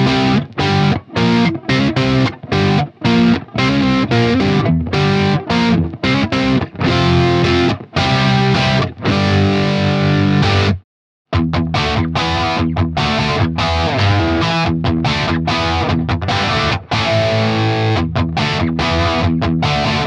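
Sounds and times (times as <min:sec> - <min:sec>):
overdriven electric guitar chords: 0:00.0 - 0:20.0.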